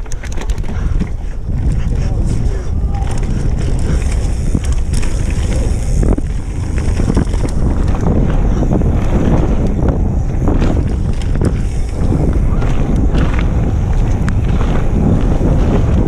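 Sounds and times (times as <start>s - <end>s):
bike knocks and rattles: 0.0s - 16.0s
bike tyres rolling on dirt: 0.0s - 16.0s
wind buffeting microphone: 0.0s - 16.0s.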